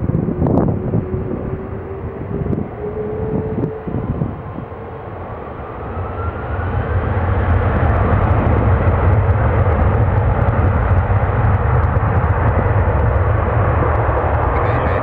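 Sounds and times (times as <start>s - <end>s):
loud low jet rumble: 0.0s - 15.0s.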